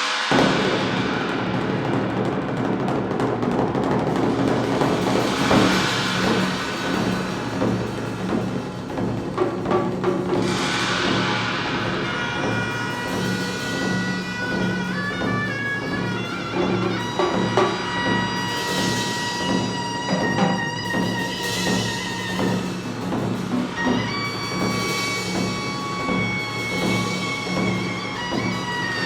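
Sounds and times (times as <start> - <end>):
percussion ensemble drumming: 0.0 - 29.0
sharp drum strikes: 0.0 - 29.0.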